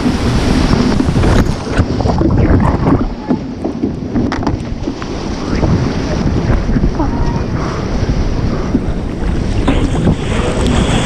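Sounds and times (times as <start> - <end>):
water splashes and knocks: 0.0 - 7.4, 8.6 - 11.0
rushing surf water: 0.0 - 11.0
wind buffeting the microphone: 0.0 - 11.0.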